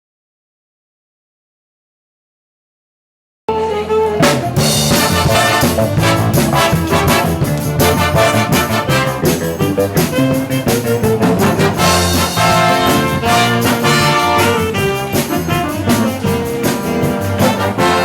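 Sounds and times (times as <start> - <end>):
wind band playing swing music: 3.5 - 18.0.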